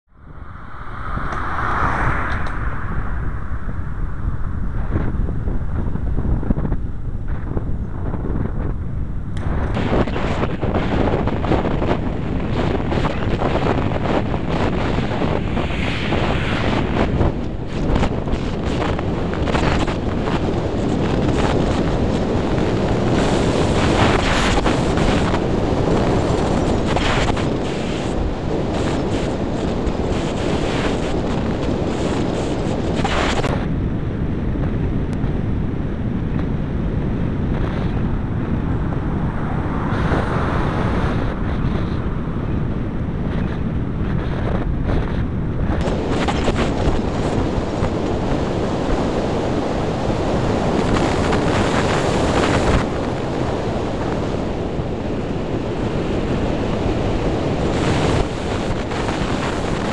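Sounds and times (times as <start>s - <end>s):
heavy wind on microphone: 0.0s - 59.9s.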